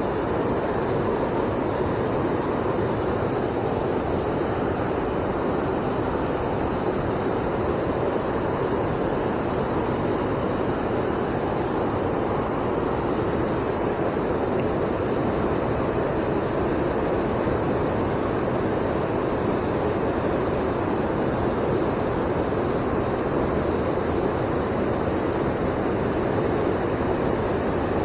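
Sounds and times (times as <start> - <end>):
fast-flowing river rushing: 0.0 - 28.0.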